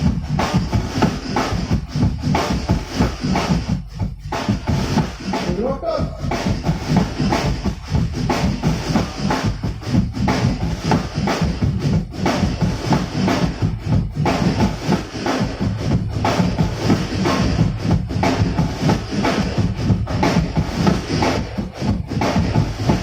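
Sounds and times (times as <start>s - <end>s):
amplified drum kit beat: 0.0s - 23.0s
heavy bass drum hits: 0.0s - 23.0s.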